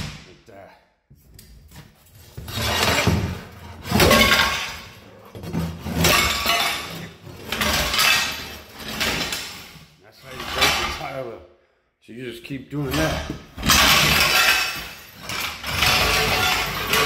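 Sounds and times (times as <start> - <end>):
tiles cracking and clinking: 1.5 - 11.1, 12.9 - 17.0.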